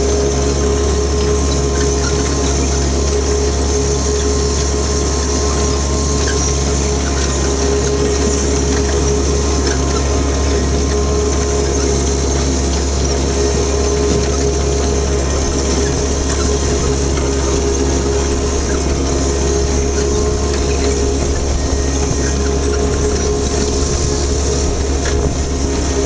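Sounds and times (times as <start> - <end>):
mower engine running: 0.0 - 26.0
steady whine: 0.0 - 26.0.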